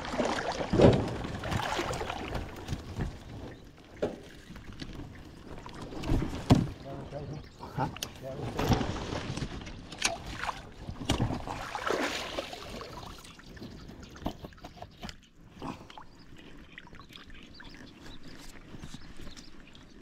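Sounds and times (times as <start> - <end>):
light water movement: 0.0 - 20.0.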